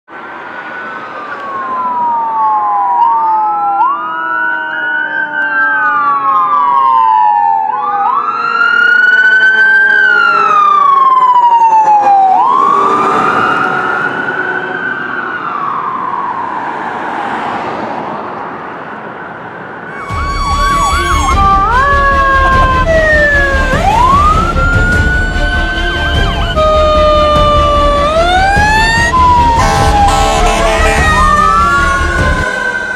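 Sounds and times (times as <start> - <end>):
fire engine sirens wailing: 0.2 - 32.9
siren yelp: 0.6 - 16.9, 19.2 - 32.9.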